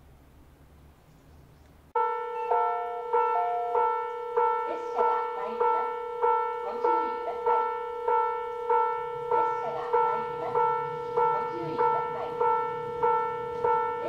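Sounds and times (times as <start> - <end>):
railway warning bell ringing: 2.0 - 14.0.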